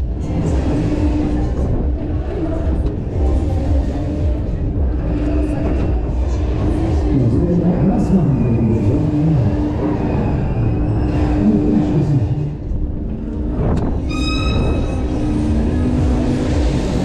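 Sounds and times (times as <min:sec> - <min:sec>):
ride machinery rumbling: 0:00.0 - 0:17.0.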